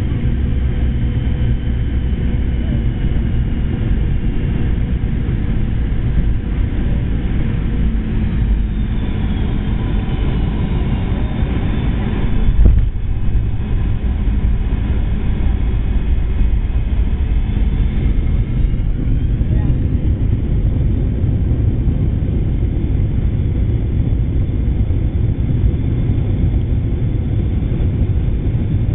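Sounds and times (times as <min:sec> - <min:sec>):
airplane cabin engine rumble: 0:00.0 - 0:28.9.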